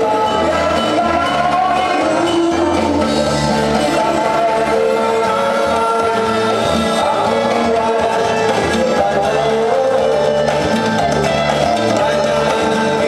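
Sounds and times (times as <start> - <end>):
amplified instrumental music: 0.0 - 13.0
man singing into a microphone: 0.0 - 13.0.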